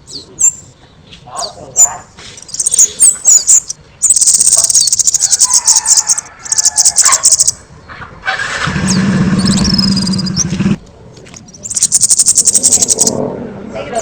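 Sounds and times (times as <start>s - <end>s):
songbird trilling: 0.0s - 0.7s, 1.4s - 7.6s, 8.8s - 13.2s.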